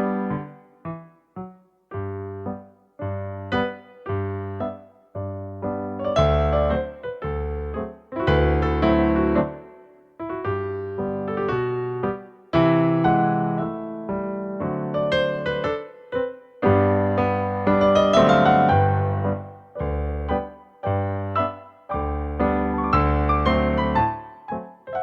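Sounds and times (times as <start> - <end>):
solo piano chords and melody: 0.0 - 25.0.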